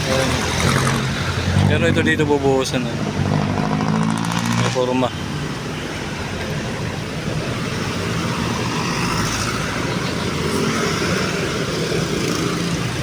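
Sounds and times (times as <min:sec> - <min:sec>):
road traffic roar: 0:00.0 - 0:13.0.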